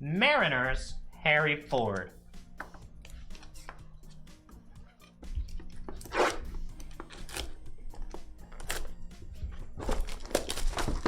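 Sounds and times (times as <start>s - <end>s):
background music: 0.0s - 11.0s
trading cards rustling and scraping: 1.7s - 11.0s.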